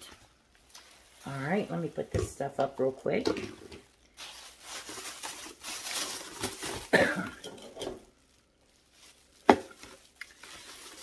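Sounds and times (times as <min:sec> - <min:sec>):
plastic bags rustling: 0:00.0 - 0:11.0.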